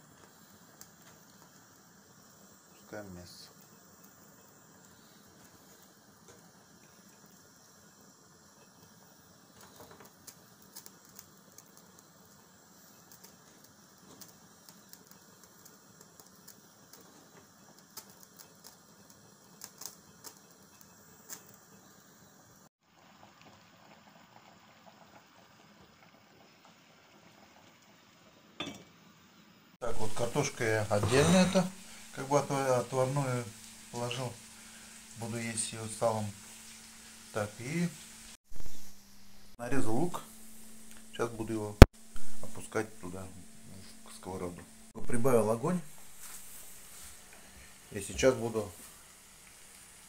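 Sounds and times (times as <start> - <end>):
meat sizzling in oil: 0.0 - 28.7, 29.8 - 50.0
faint steady hiss: 0.0 - 50.0.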